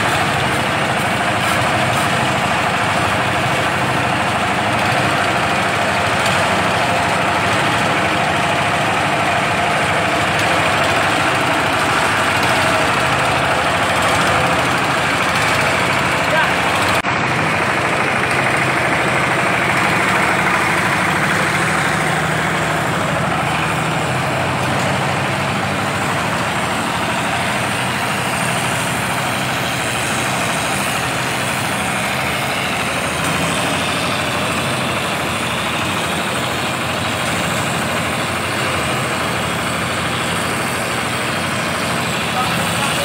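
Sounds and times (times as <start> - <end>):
plastering machine motor and pump: 0.0 - 43.0.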